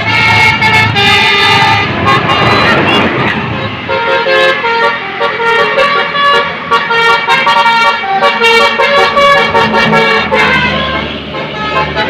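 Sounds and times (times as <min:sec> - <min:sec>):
bus horn playing a melody: 0:00.0 - 0:12.0.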